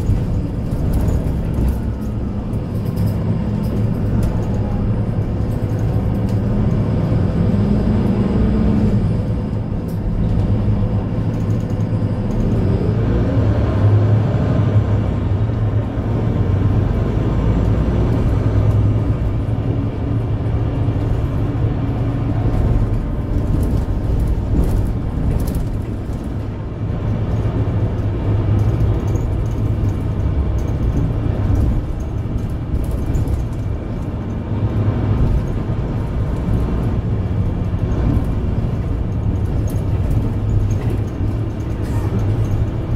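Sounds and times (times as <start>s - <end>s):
bus drivetrain hum: 0.0s - 42.9s.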